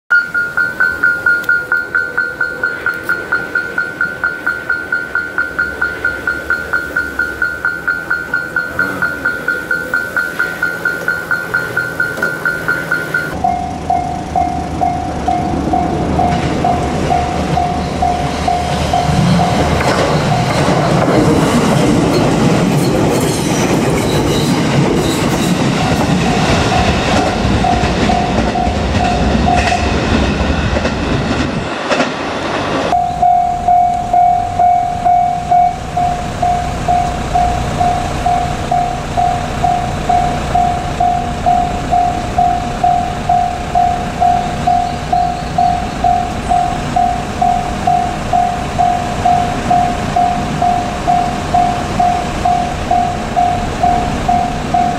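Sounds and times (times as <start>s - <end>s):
level-crossing bell ringing: 0.1s - 22.3s, 25.4s - 30.2s, 32.9s - 54.9s
passing electric train: 0.1s - 54.9s.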